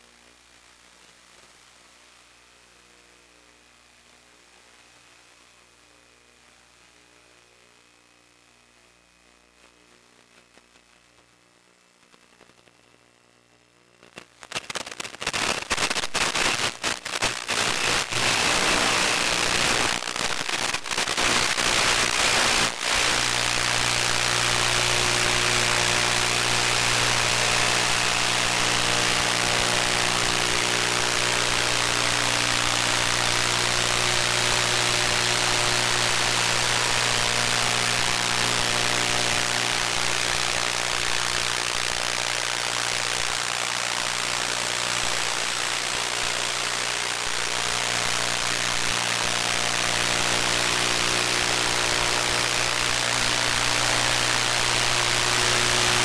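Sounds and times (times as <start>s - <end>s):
radio static hiss: 0.0s - 56.0s.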